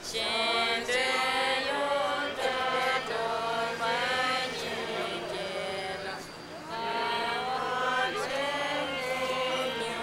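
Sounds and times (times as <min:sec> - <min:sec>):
crowd singing a chant: 0:00.0 - 0:10.0.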